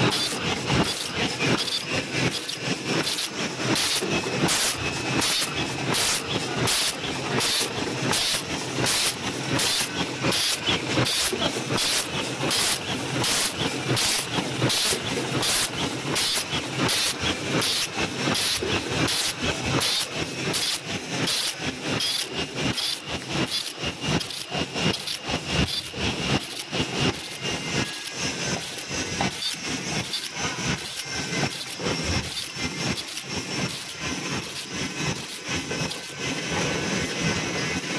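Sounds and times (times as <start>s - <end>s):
machine mechanical clatter: 0.0s - 37.9s.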